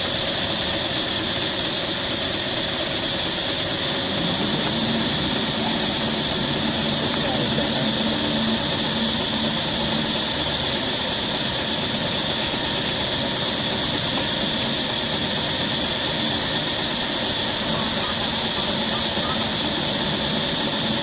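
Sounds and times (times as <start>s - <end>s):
high-pitched drone: 3.5s - 21.0s.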